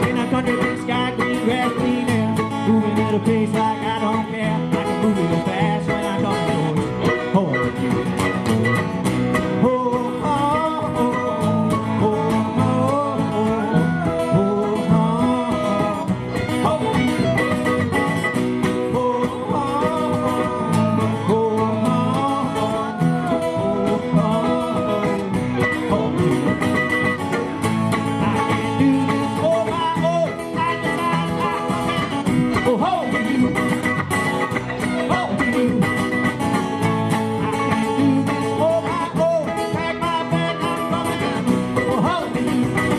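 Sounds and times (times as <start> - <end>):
country band playing: 0.0 - 42.9
guitar melody bending in pitch: 0.0 - 42.9.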